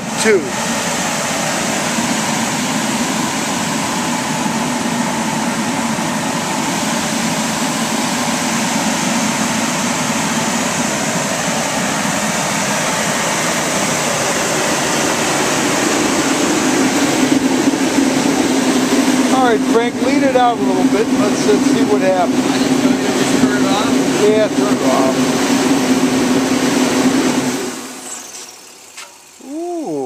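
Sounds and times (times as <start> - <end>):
heater blower and flame rushing: 0.0 - 30.0.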